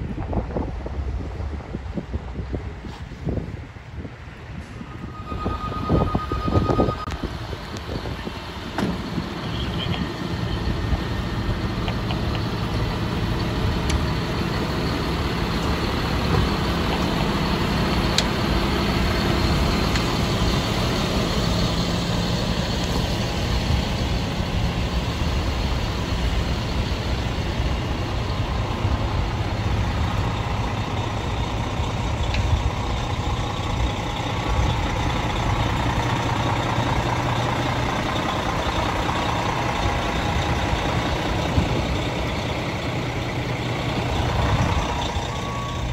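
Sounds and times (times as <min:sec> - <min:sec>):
fire engine diesel engines rumbling: 0:00.0 - 0:45.9.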